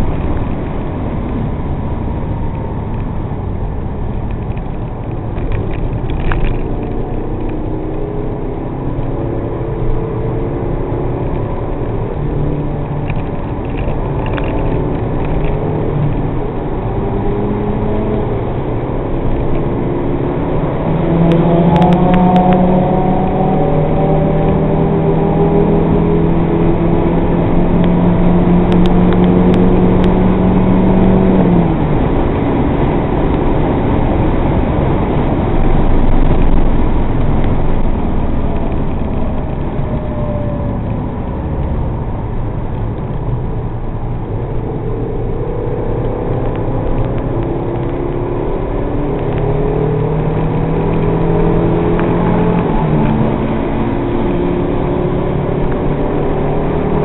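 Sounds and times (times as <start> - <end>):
car engine at high revs: 0.0 - 57.0
wind noise: 0.0 - 57.0.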